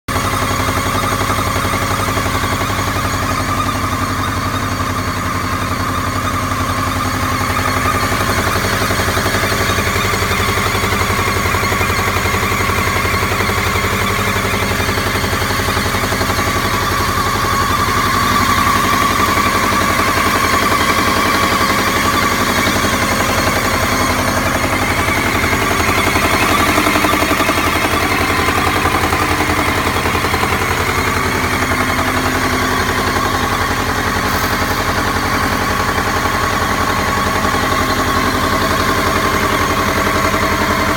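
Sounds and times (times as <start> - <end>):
engine idling with knocking clatter: 0.0 - 40.9.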